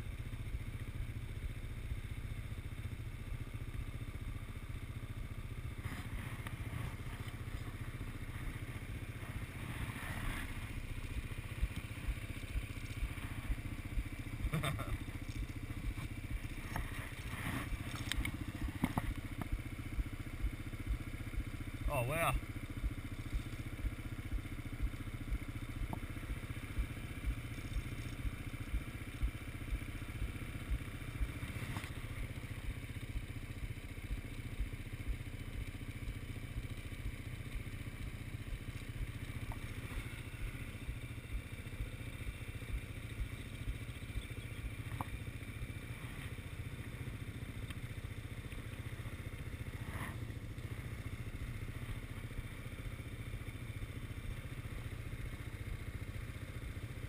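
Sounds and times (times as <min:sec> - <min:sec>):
quad bike engine idling: 0:00.0 - 0:57.0.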